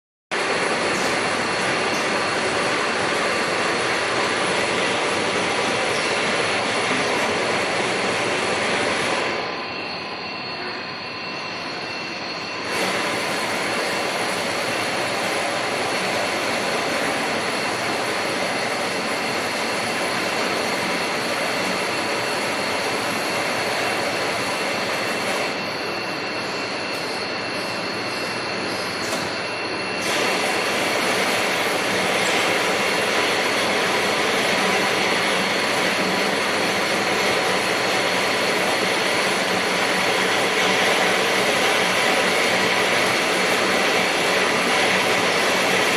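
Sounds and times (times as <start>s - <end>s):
high-pitched machine whines: 0.3s - 45.9s
machine tools running: 0.3s - 45.9s.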